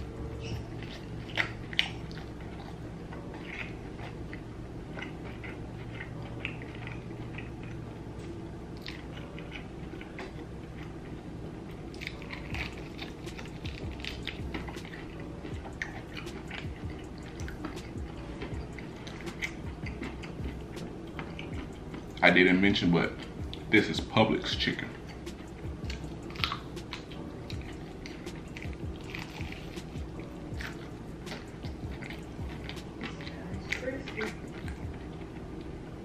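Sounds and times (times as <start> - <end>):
crunchy fried chicken chewing: 0.0 - 35.8.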